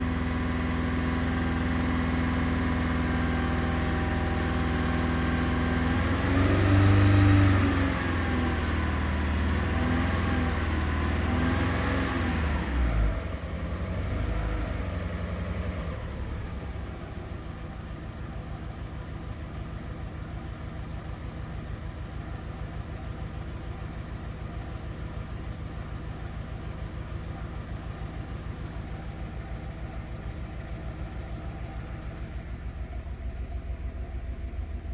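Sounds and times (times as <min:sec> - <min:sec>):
car engine revving and idling: 0:00.0 - 0:34.9.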